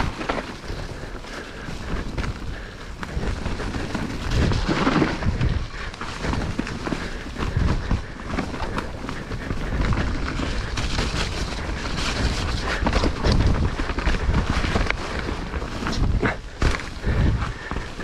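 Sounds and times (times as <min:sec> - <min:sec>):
bike rattling with clicks: 0:00.0 - 0:18.0
bike tyres rolling over ground: 0:00.0 - 0:18.0
wind buffeting microphone: 0:00.0 - 0:18.0.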